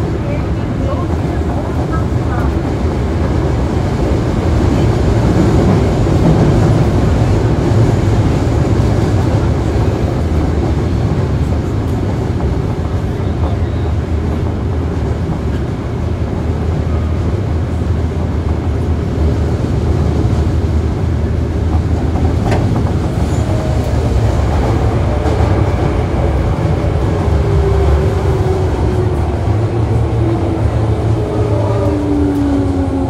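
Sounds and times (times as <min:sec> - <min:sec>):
wheels rumbling on track: 0:00.0 - 0:33.0.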